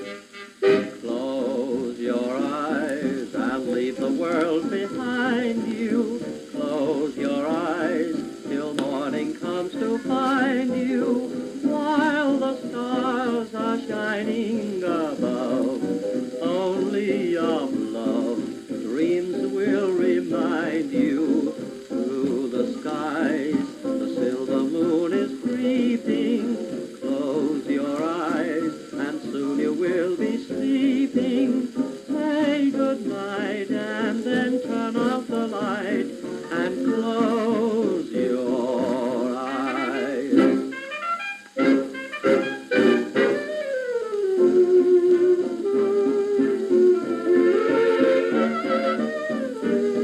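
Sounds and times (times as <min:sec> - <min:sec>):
old dance band record: 0:00.0 - 0:50.0.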